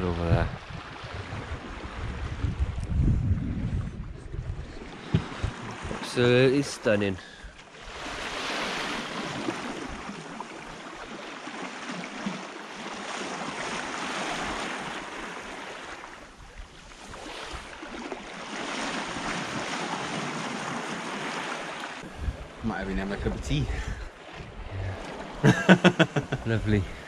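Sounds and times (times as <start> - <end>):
water and wind rushing: 0.0 - 27.0.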